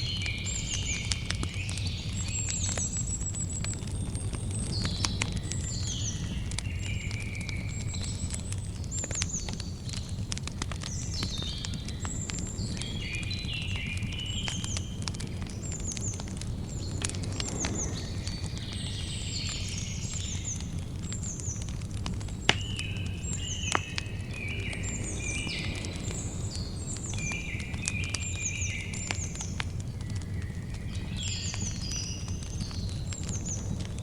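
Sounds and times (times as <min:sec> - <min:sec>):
campfire crackling and popping: 0:00.0 - 0:34.0
birds chirping: 0:03.7 - 0:21.7, 0:22.4 - 0:34.0.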